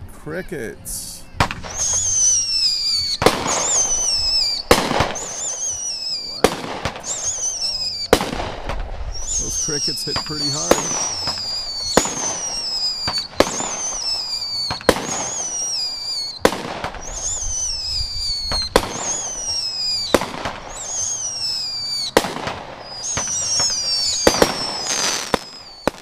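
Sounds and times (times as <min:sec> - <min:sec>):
firework shots: 0:01.0 - 0:26.0
falling firework whistle: 0:01.4 - 0:26.0.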